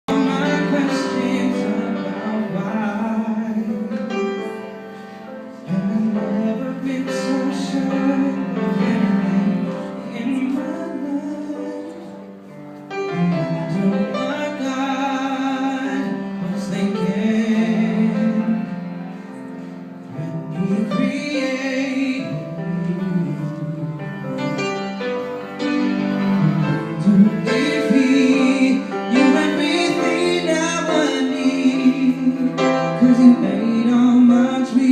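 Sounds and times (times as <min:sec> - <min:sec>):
person singing: 0:00.0 - 0:04.9, 0:05.5 - 0:34.9
instrumental accompaniment: 0:00.1 - 0:34.9.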